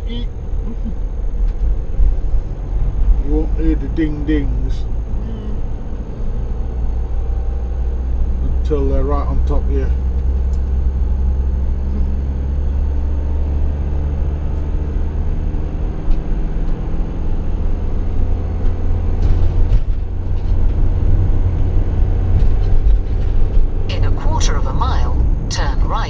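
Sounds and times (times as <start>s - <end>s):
motorhome engine drone: 0.0s - 26.0s
road rumble: 0.0s - 26.0s.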